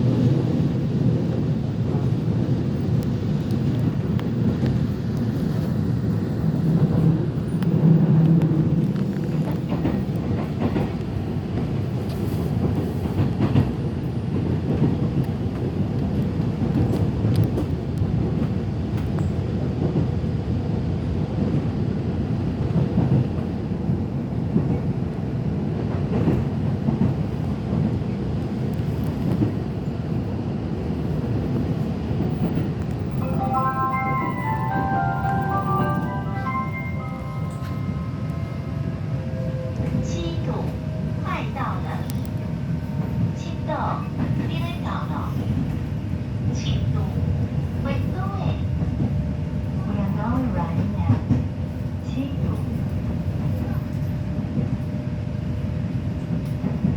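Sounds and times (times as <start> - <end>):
train rumbling inside carriage: 0.0 - 56.9.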